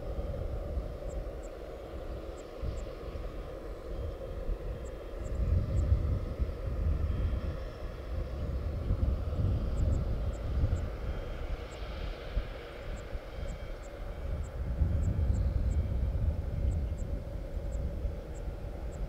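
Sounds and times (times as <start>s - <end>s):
low uneven rumble: 0.0s - 19.0s
steady mechanical hum: 0.0s - 19.0s.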